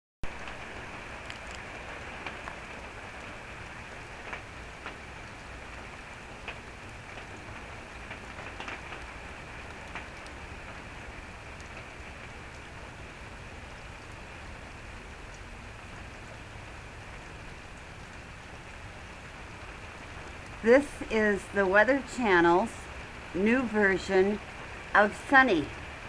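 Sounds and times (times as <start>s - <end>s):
raindrops ticking on surfaces: 0.2s - 26.0s
steady rain hiss: 0.2s - 26.0s.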